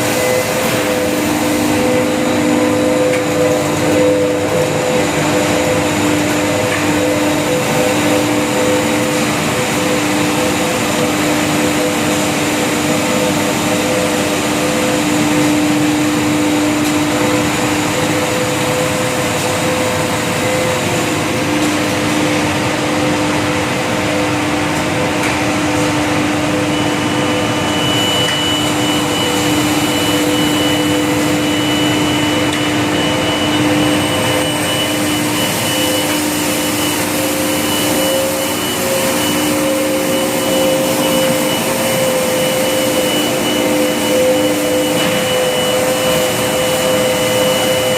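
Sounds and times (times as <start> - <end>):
extrusion machine whir and hum: 0.0 - 47.9
thin high whine: 0.0 - 47.9.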